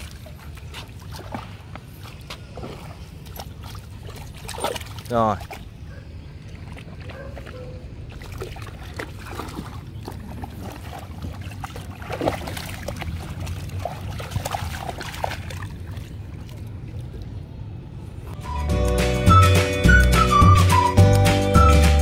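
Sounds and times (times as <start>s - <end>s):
puppies lapping water: 0.0s - 17.7s
water splashing and sloshing: 0.0s - 18.4s.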